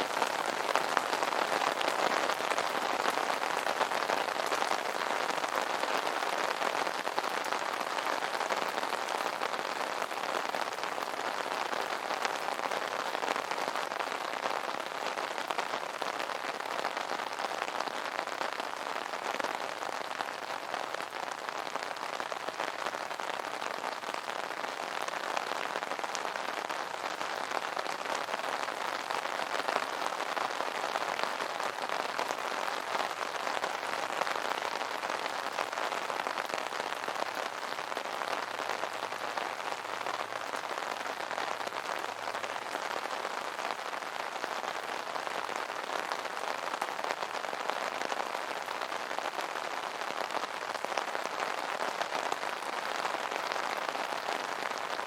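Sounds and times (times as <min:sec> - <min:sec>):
rain drumming on umbrella: 0:00.0 - 0:55.0.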